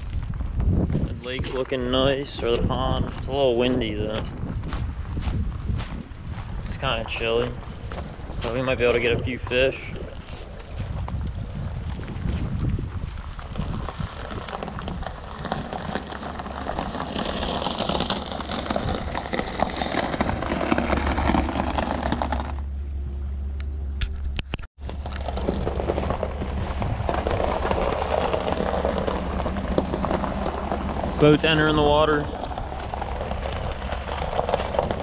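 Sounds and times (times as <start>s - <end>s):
wind buffeting microphone: 0.0s - 22.7s, 24.8s - 35.0s.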